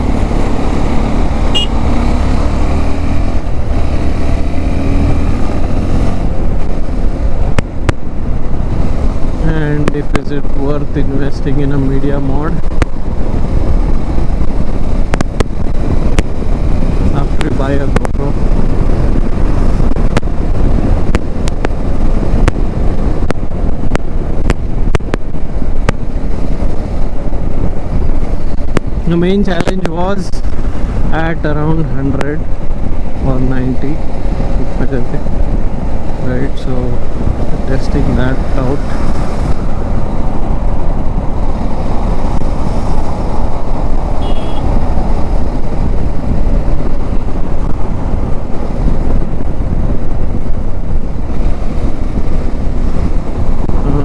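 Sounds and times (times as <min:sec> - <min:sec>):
motorcycle engine: 0:00.0 - 0:10.1, 0:12.7 - 0:54.0
wind buffeting microphone: 0:00.0 - 0:54.0.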